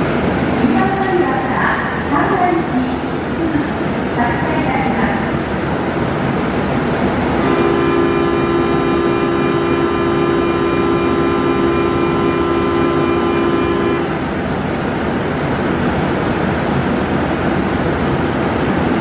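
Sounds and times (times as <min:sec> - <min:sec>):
station background hum: 0:00.0 - 0:19.0.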